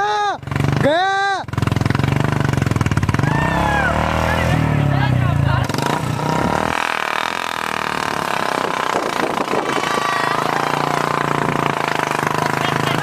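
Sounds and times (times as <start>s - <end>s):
motorcycle engines straining: 0.0s - 13.0s.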